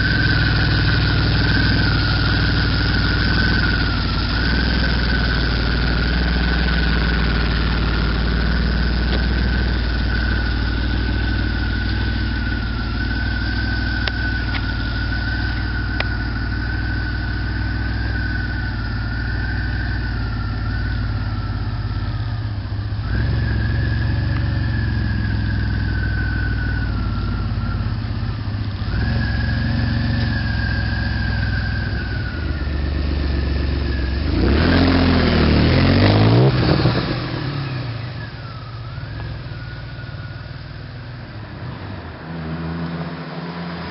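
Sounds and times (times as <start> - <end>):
car engine idling: 0.0 - 43.9
high whine: 0.0 - 43.9.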